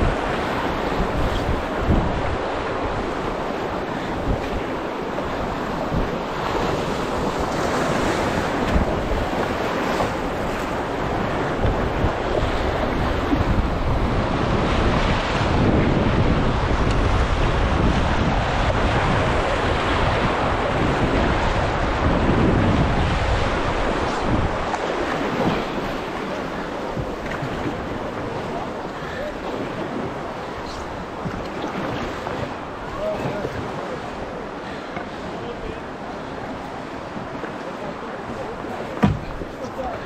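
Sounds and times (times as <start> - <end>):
river water rushing: 0.0 - 40.0
wind buffeting microphone: 0.0 - 40.0.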